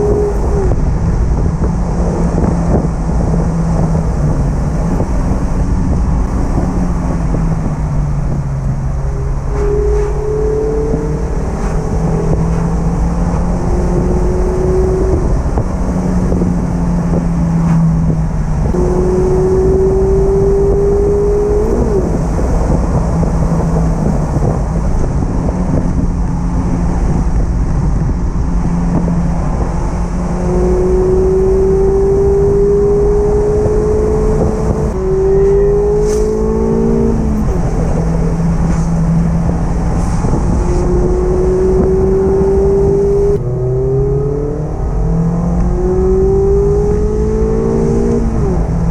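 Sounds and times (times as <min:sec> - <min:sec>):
car engine accelerating: 0:00.0 - 0:48.9
road and wind noise: 0:00.0 - 0:48.9.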